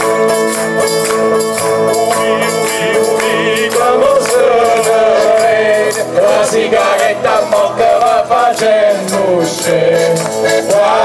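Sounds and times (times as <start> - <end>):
instrumental accompaniment: 0.0 - 11.0
percussion beat: 0.0 - 11.0
man singing: 1.8 - 11.0.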